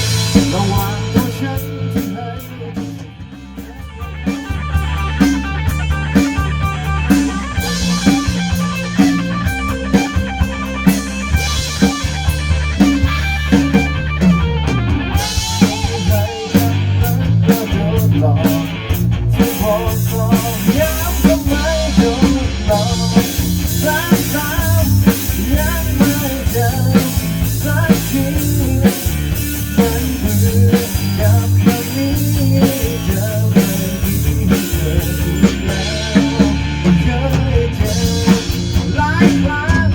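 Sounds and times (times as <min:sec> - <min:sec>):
lead guitar line: 0:00.0 - 0:39.9
rock band playing instrumental: 0:00.0 - 0:39.9.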